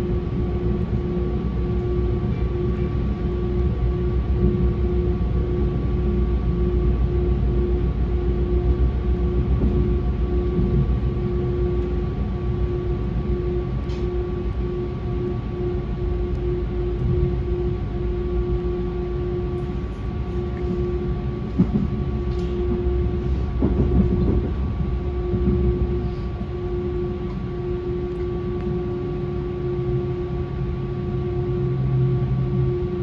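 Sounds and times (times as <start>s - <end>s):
constant hum: 0.0s - 33.0s
electric train rumble: 0.0s - 33.0s.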